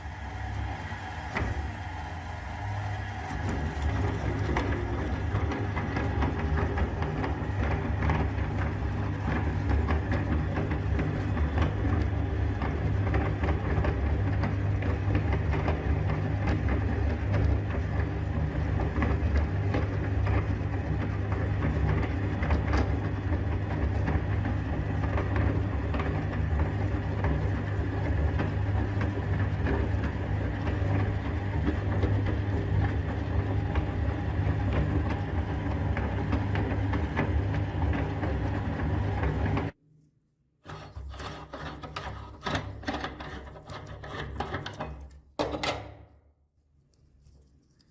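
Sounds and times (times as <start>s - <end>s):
electric meat grinder humming: 0.0s - 39.7s.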